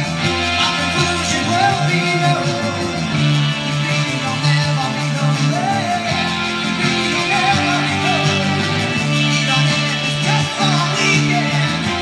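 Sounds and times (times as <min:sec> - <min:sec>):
guitar-led song: 0:00.0 - 0:12.0.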